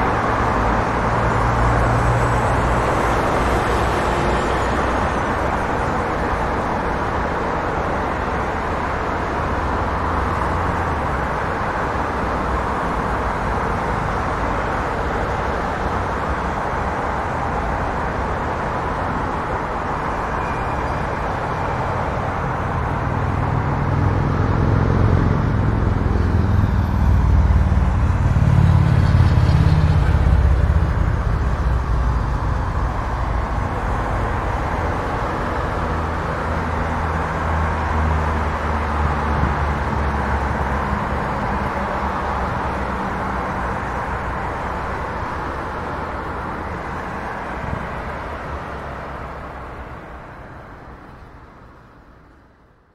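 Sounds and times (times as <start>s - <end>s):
road traffic roar: 0.0s - 52.9s
vehicle engine rumble: 0.0s - 52.9s.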